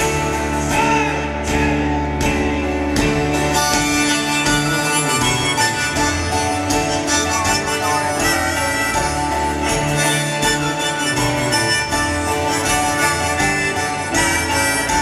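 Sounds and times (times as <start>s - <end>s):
piano: 0.0s - 15.0s
strummed acoustic guitars: 0.0s - 15.0s
upright bass: 0.0s - 15.0s.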